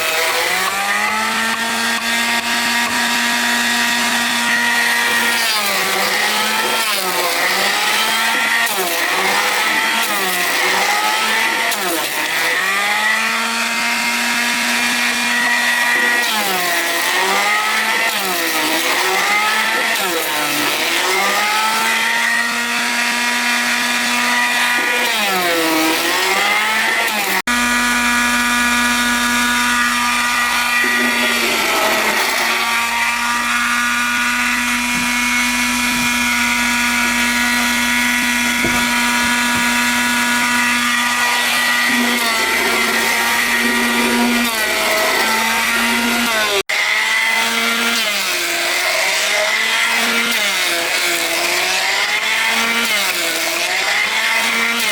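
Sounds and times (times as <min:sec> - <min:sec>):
power tool cutting wood: 0:00.0 - 0:54.9.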